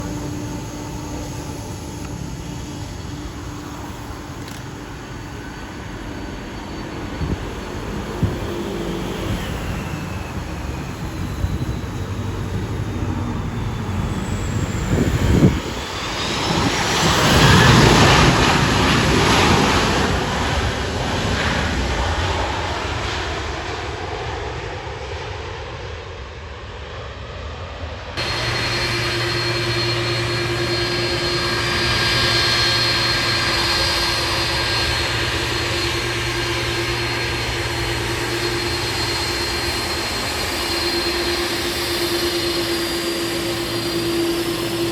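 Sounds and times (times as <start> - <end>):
aircraft engines running steadily: 0.0 - 44.9
aircraft flying by: 0.0 - 44.9.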